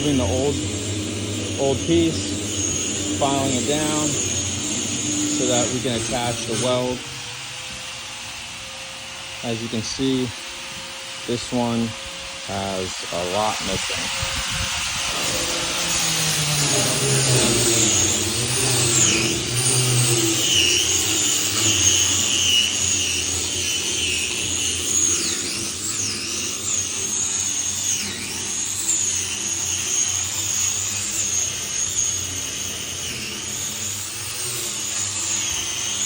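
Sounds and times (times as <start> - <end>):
electric grinder grinding metal: 0.0 - 36.0.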